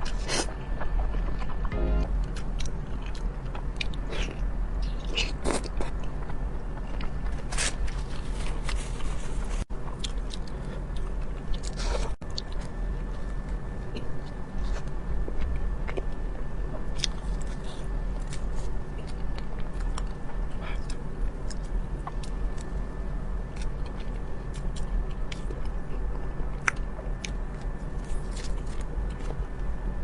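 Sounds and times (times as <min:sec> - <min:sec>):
chewing soft cake: 0:00.0 - 0:30.0
steady low hum: 0:00.0 - 0:30.0.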